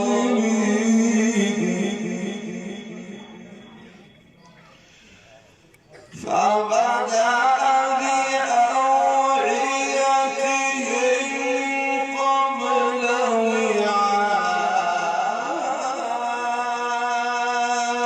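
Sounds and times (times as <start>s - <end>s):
man chanting melodically: 0.0s - 5.0s, 6.0s - 18.0s.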